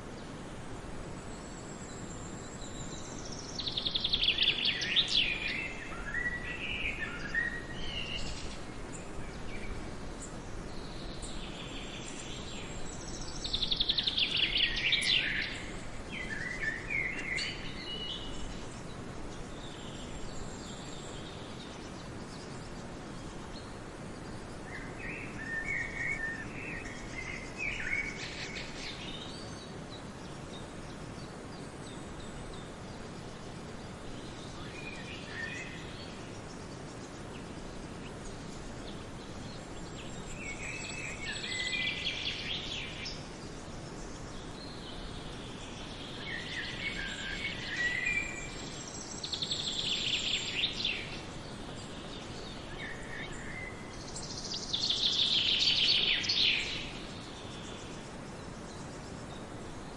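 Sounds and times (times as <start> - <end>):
outdoor ambience hiss: 0.0 - 59.9
songbird singing: 0.0 - 59.9.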